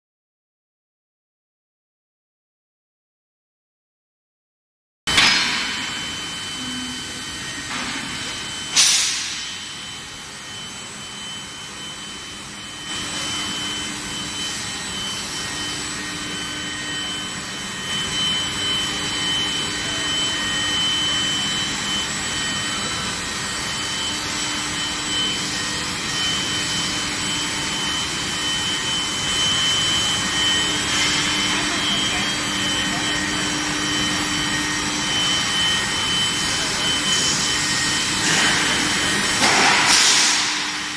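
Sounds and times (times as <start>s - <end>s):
high steady tones: 5.1s - 39.5s
industrial hiss and hum: 5.1s - 40.9s.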